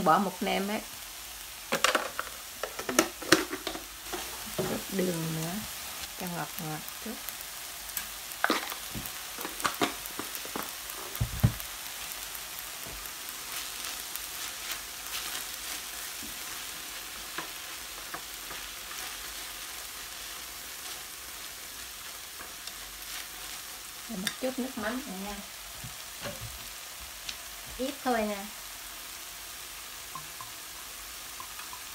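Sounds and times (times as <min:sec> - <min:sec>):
meat sizzling in a frying pan: 0:00.0 - 0:31.9.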